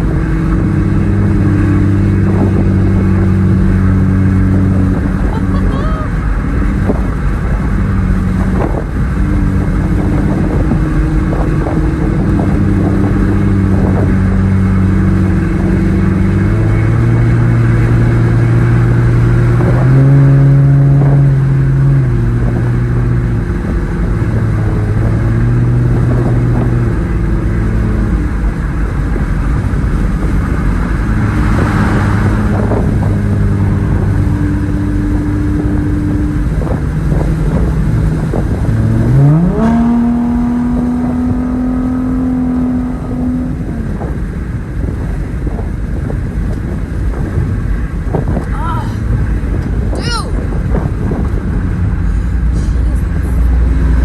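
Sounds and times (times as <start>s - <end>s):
car exhaust while driving: 0.0s - 54.0s.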